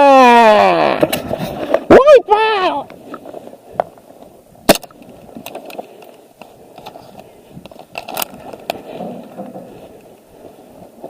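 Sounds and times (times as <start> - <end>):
rustling and scraping: 1.0 - 1.9, 2.9 - 11.0.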